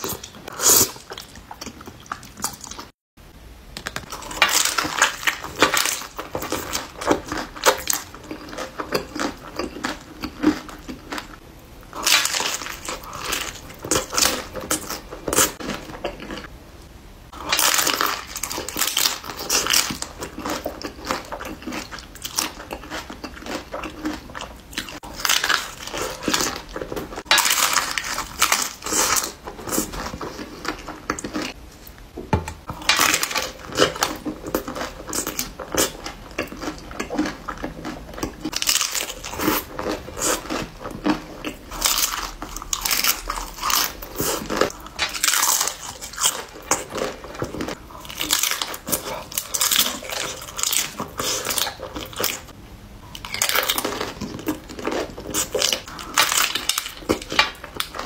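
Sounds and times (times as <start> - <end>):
person crunching and chewing: 0.0 - 3.0, 3.8 - 16.5, 17.3 - 32.0, 32.6 - 58.0.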